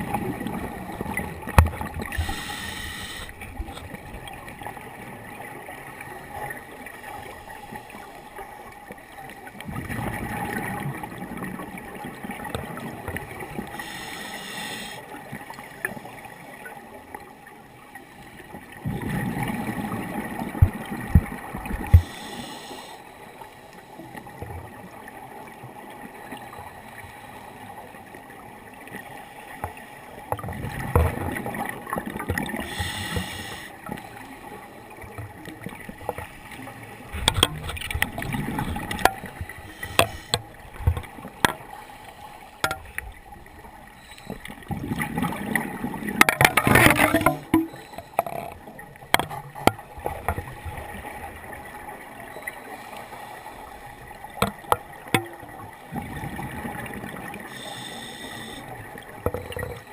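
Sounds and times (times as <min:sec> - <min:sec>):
underwater bubbles gurgling: 0:00.0 - 0:59.9.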